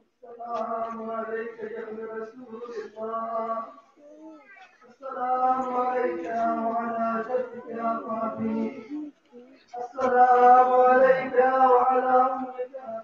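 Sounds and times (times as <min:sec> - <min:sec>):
man chanting a lament: 0:00.2 - 0:04.0, 0:04.8 - 0:09.1, 0:09.7 - 0:13.0.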